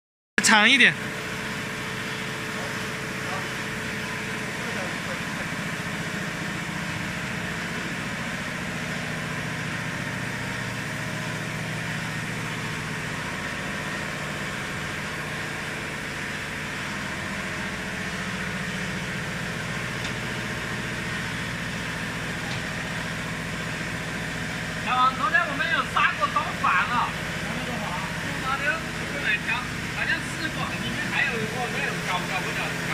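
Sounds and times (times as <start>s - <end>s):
machine motors humming: 1.0s - 32.9s.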